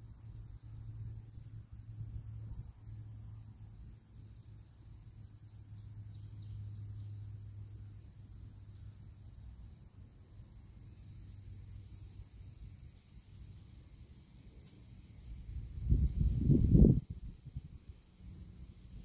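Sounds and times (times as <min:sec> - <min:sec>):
insects chirring: 0:00.0 - 0:19.0
low steady hum: 0:00.0 - 0:19.0.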